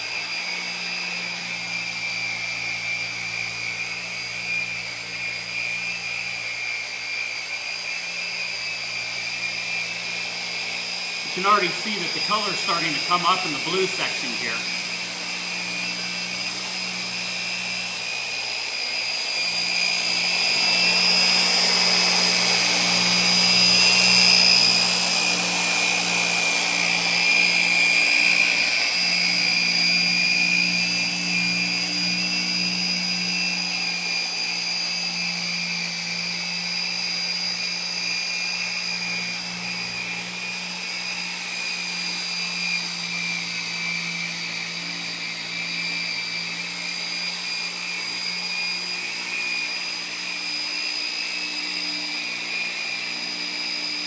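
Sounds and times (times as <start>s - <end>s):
polisher motor whine: 0.0s - 54.0s.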